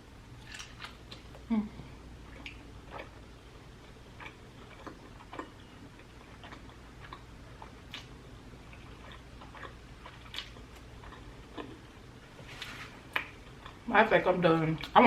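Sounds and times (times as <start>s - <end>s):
low steady hum: 0.0s - 15.0s
person chewing food: 0.3s - 13.9s.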